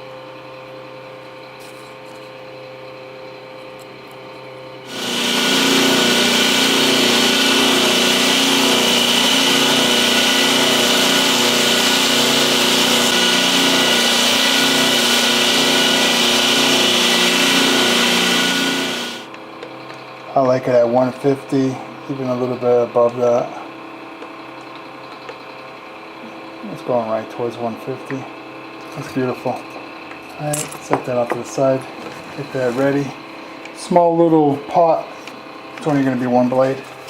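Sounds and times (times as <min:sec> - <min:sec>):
power tool whining: 0:04.8 - 0:37.0.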